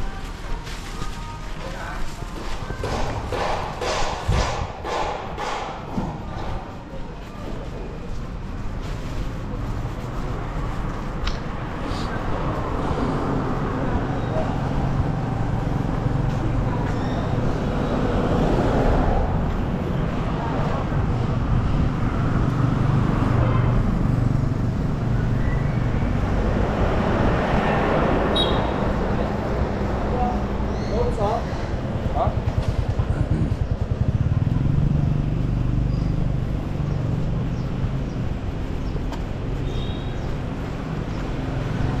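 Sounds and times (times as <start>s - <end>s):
low rumble of street traffic: 0.0s - 42.0s
road noise: 0.0s - 42.0s
vehicle engines humming: 0.0s - 42.0s.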